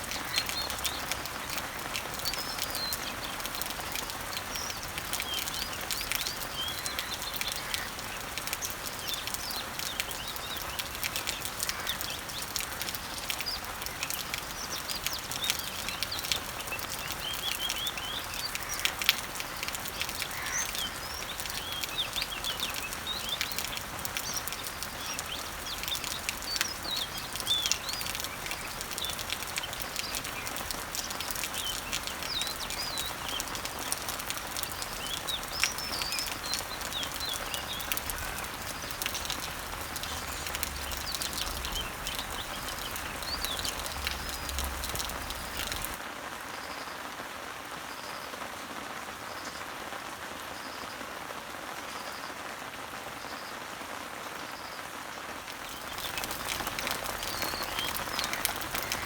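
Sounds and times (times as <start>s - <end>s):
songbirds chirping and singing: 0.0s - 46.0s, 55.6s - 59.0s
rain pattering on leaves: 0.0s - 59.0s.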